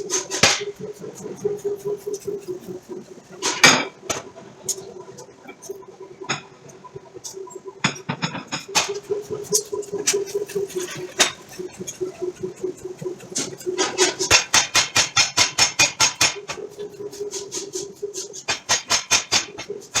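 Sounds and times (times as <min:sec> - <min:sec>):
fast-pulsing machine hum: 0:00.0 - 0:03.8, 0:04.4 - 0:20.0.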